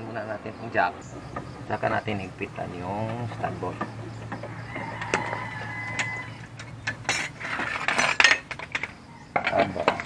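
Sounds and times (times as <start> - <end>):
wrench clinking on lug nuts: 1.2 - 10.0.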